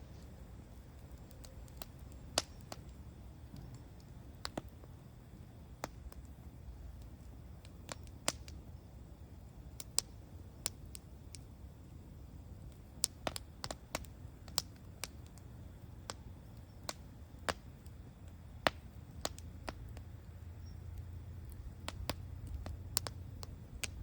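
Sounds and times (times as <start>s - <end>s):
campfire pops and snaps: 0.0s - 24.0s
low rumble of burning fire: 0.0s - 24.0s.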